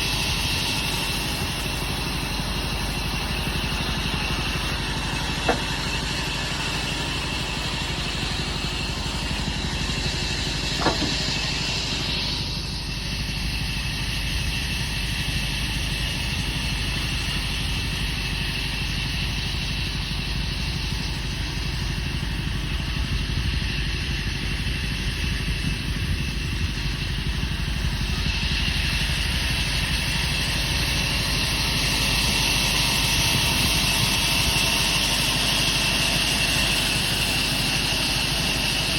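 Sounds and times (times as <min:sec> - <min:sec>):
woodworking machinery humming: 0:00.0 - 0:38.9.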